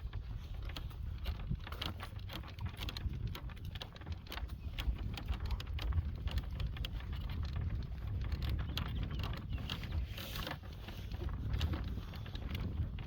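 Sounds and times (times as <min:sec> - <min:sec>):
cart wheels crunching: 0:00.0 - 0:13.0
horse hooves on dirt road: 0:00.0 - 0:13.0
wind rumble on microphone: 0:00.0 - 0:13.0.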